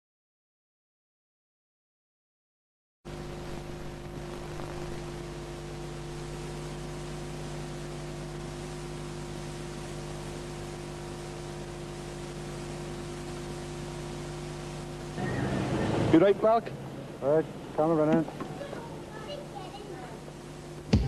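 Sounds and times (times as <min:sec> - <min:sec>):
electrical hum: 0:03.1 - 0:21.0
tape hiss: 0:03.1 - 0:21.0.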